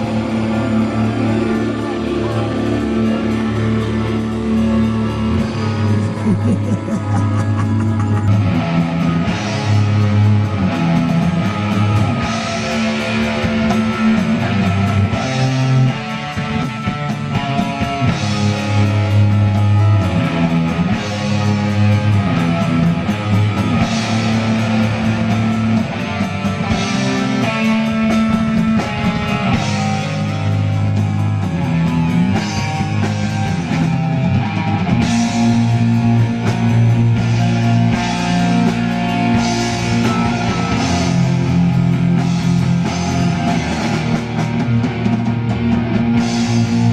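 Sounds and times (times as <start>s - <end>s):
bass guitar: 0.0s - 46.9s
electric guitar: 0.0s - 46.9s
drum kit: 2.6s - 46.9s.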